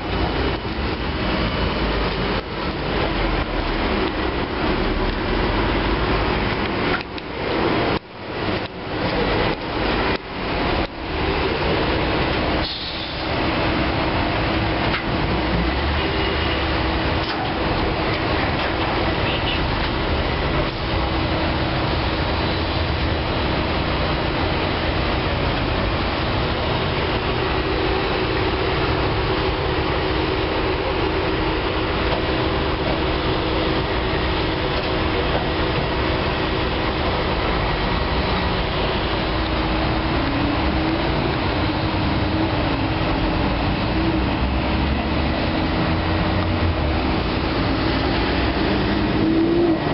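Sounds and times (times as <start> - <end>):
car wash machine running: 0.0 - 49.9.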